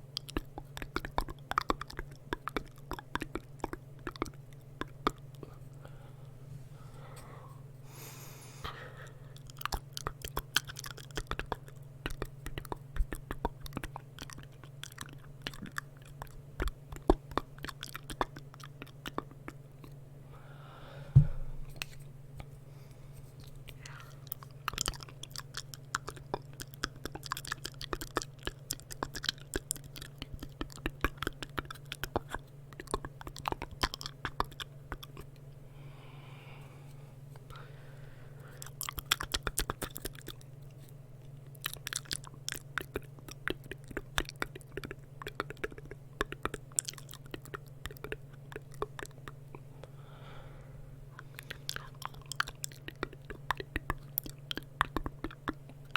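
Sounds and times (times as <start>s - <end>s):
wet lip and tongue clicks: 0.0s - 5.8s, 9.0s - 20.0s, 23.4s - 35.6s, 38.4s - 49.8s, 51.2s - 55.9s
steady low hum: 0.0s - 55.9s.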